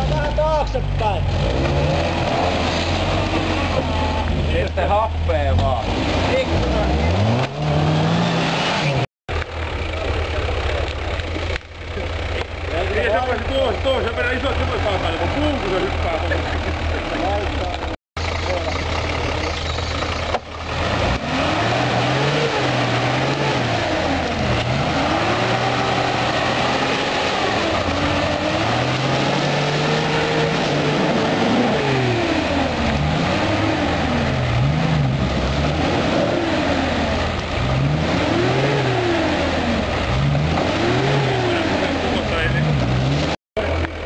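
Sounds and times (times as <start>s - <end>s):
engine revving up and down: 0.0s - 9.1s, 9.9s - 44.0s.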